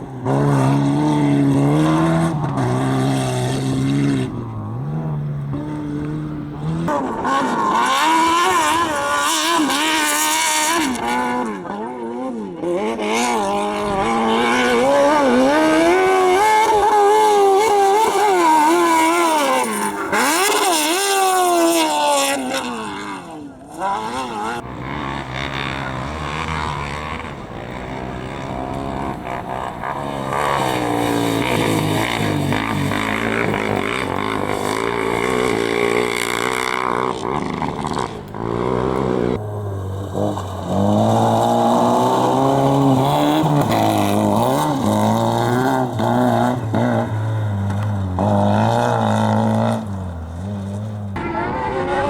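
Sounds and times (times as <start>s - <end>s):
car engine revving: 0.0s - 52.0s
engine running at high revs: 0.0s - 52.0s.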